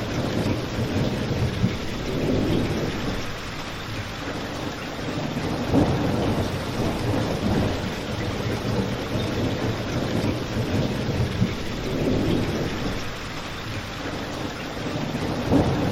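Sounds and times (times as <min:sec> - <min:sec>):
rain falling: 0:00.0 - 0:15.9.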